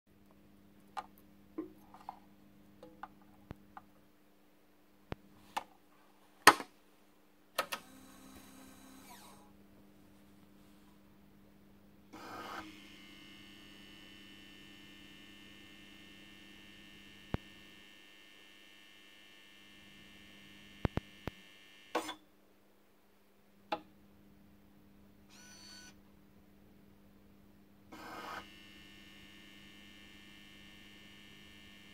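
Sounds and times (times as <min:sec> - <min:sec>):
steady electrical hum: 0:00.1 - 0:27.9.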